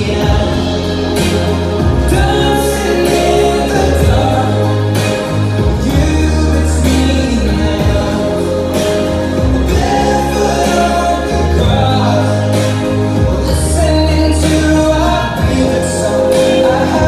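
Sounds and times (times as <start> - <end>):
person singing: 0.0 - 17.0
steady bass: 0.0 - 17.0
waltz music: 0.0 - 17.0.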